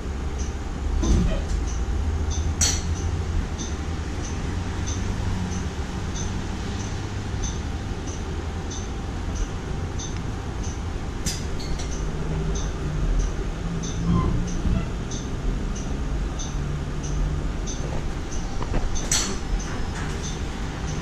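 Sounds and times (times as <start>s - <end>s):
bus interior low rumble: 0.0s - 21.0s
light repeating tick: 0.3s - 0.6s, 1.6s - 21.0s.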